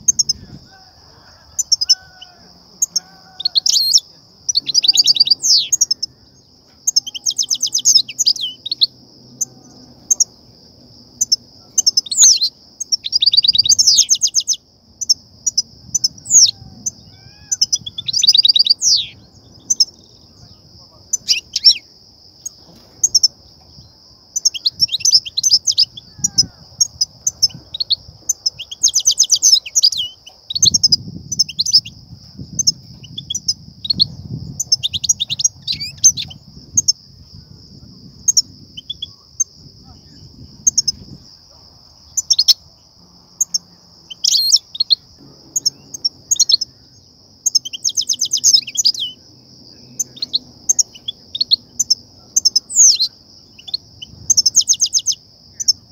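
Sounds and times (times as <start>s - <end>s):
bird twittering chirps and trills: 0.0s - 55.9s.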